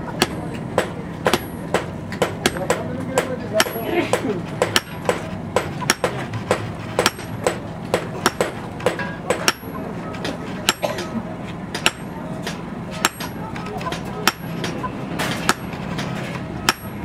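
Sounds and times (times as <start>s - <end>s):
steady low hum: 0.0s - 17.0s
hammer striking steel on anvil: 0.1s - 11.1s, 11.7s - 15.8s, 16.6s - 17.0s.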